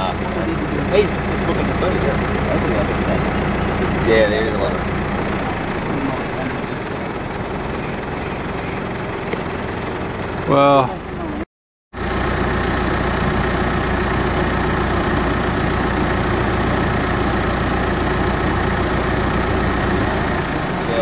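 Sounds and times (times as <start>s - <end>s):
steady engine hum: 0.0s - 21.0s.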